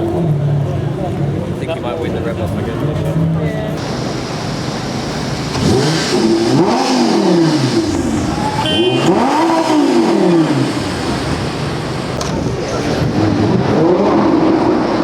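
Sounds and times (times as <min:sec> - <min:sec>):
sports car engine revving: 0:02.7 - 0:15.0.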